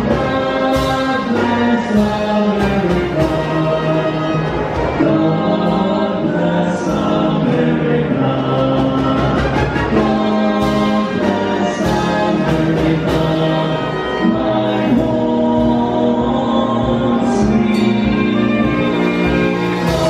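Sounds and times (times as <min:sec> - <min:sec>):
brass band playing: 0:00.0 - 0:20.0
group of voices singing: 0:00.0 - 0:20.0.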